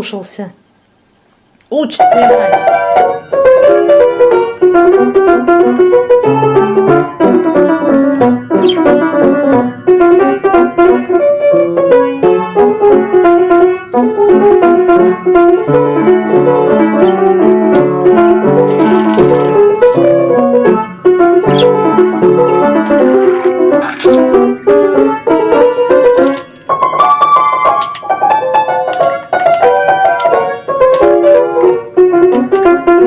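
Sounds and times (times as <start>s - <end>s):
piano music: 1.9s - 33.0s.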